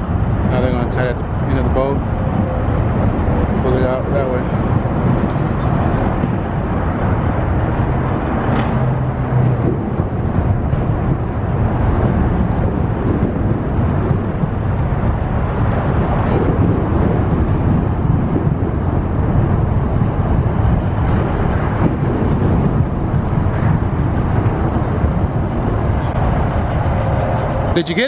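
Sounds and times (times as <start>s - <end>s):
outboard motor rumbling: 0.0s - 28.0s.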